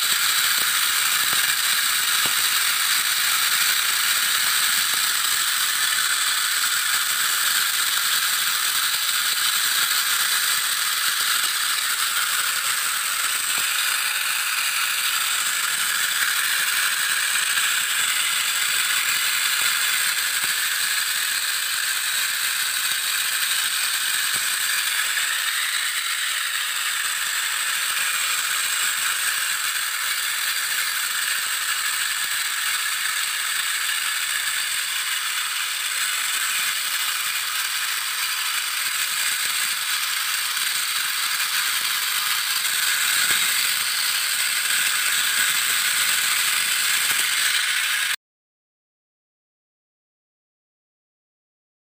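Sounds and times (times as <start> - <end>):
toy vehicle motors whirring: 0.0 - 48.2.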